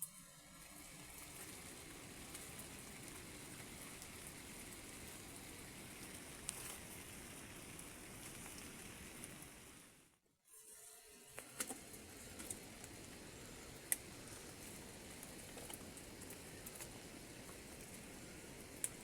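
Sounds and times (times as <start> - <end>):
rain falling: 0.9 - 10.0, 12.0 - 19.0.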